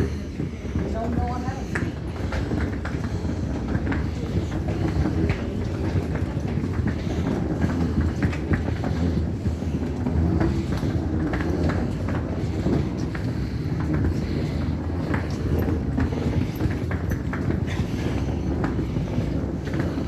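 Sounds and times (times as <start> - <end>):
footsteps: 0.0 - 20.0
luggage wheels rolling over paving: 0.0 - 20.0.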